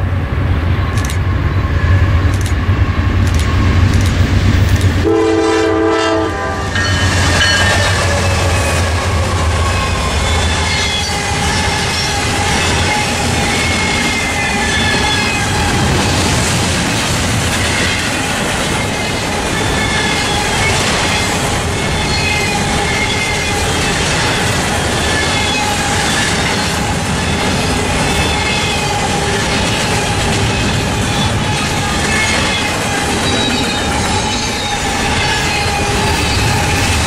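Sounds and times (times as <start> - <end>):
freight train rumble and clatter: 0.0 - 37.0
train wheels whining and squealing: 0.0 - 37.0.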